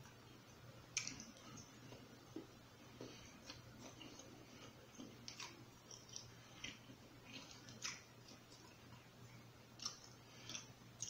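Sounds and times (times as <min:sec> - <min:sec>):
low steady hum: 0:00.0 - 0:11.0
man chewing: 0:00.9 - 0:11.0.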